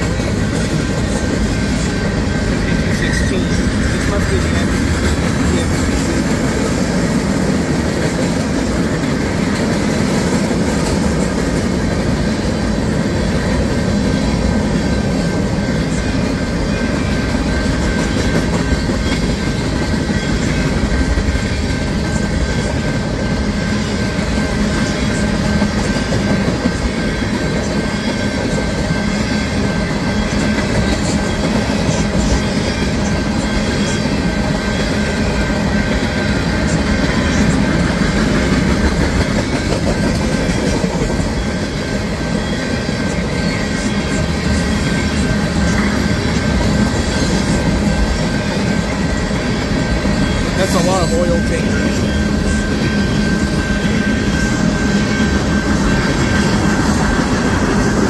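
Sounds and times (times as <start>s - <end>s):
train wheels clacking over rails: 0.0s - 58.0s.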